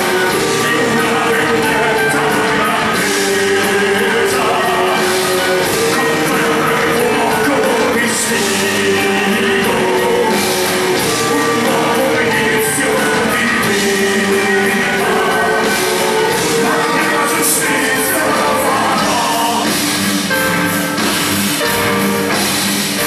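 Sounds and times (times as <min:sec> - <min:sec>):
man singing into microphone: 0:00.0 - 0:19.8
electric bass and guitars: 0:00.0 - 0:23.0.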